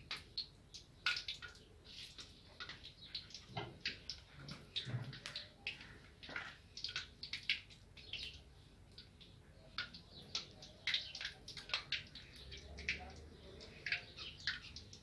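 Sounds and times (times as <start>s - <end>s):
oil sizzling and popping: 0.0s - 15.0s.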